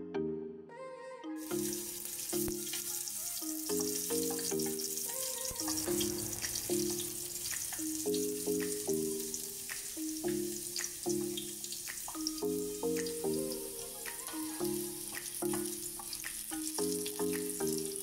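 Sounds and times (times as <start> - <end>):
background music: 0.0 - 18.0
garlic sizzling in hot oil: 1.5 - 13.2, 14.7 - 18.0.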